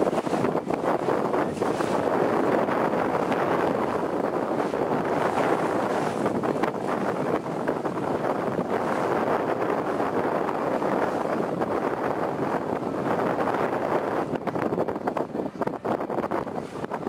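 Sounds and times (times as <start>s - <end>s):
boat motor: 0.0s - 17.0s
water along hull: 0.0s - 17.0s
wind on microphone: 0.0s - 17.0s.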